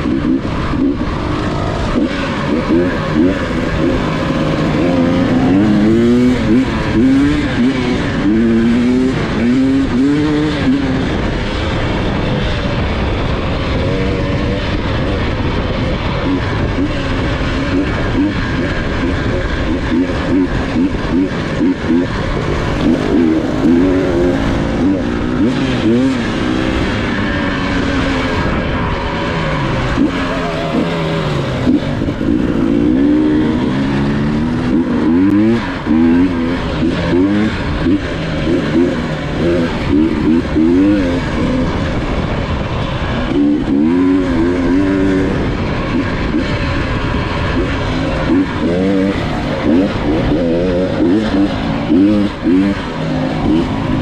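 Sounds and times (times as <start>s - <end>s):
dirt bike engine revving: 0.0s - 54.0s
rough rushing noise: 0.0s - 54.0s.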